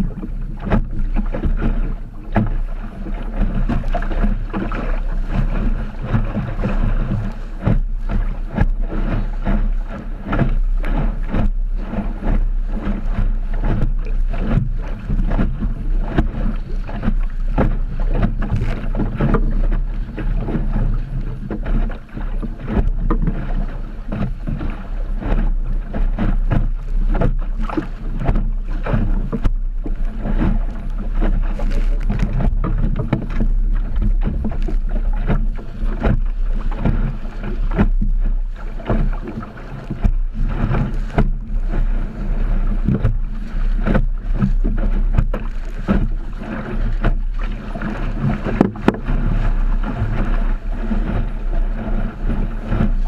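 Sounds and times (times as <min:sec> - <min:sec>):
choppy water slapping hull: 0:00.0 - 0:53.0
wind buffeting microphone: 0:00.0 - 0:53.0.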